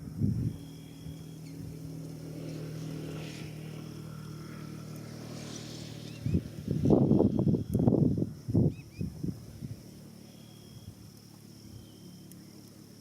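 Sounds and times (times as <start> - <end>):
distant engine humming: 0.0 - 13.0.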